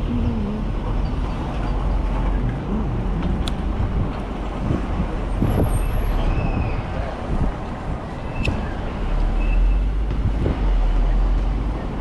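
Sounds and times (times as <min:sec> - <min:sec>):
low traffic rumble: 0:00.0 - 0:12.0
motor vehicles passing: 0:00.0 - 0:12.0.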